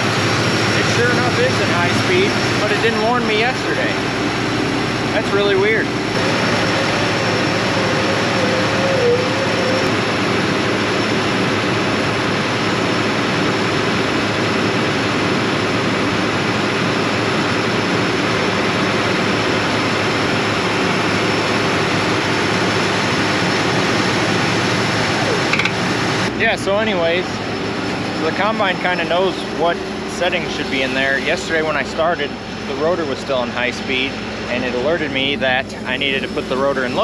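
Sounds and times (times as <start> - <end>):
combine engine whir: 0.0 - 37.0.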